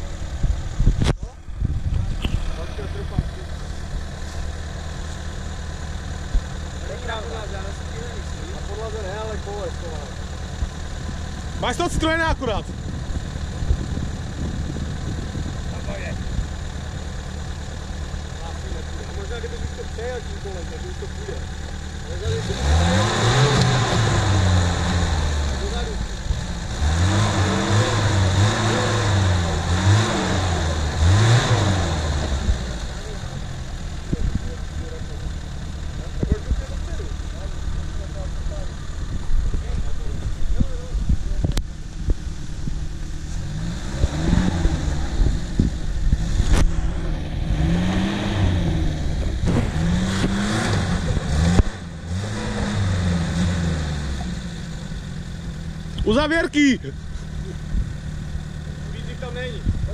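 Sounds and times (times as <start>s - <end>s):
car engine revving under load: 0.0s - 59.9s.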